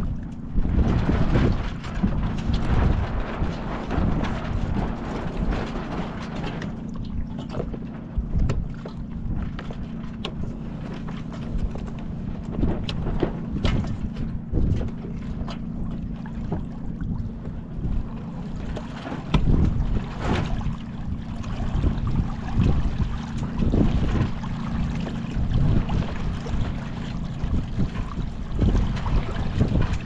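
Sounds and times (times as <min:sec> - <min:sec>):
low hum: 0:00.0 - 0:30.0
wind buffeting microphone: 0:00.0 - 0:30.0.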